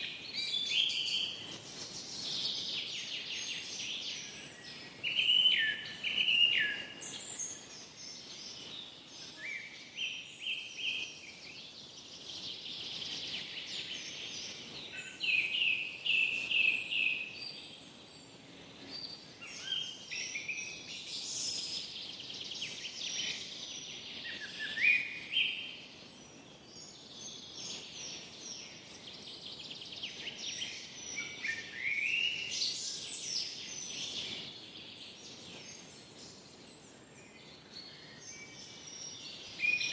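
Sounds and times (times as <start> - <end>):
birds chirping and trilling: 0.0 - 39.9
faint steady background hiss: 0.0 - 39.9.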